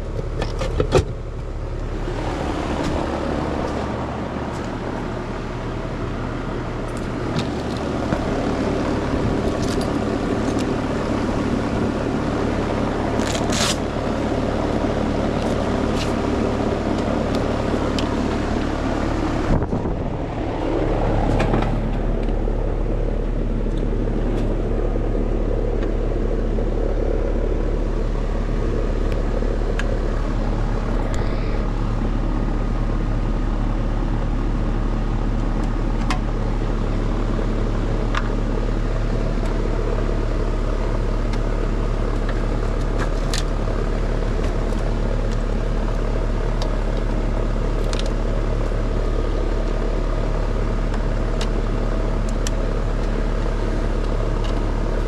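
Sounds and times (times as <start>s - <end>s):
air conditioner unit humming: 0.0s - 55.0s.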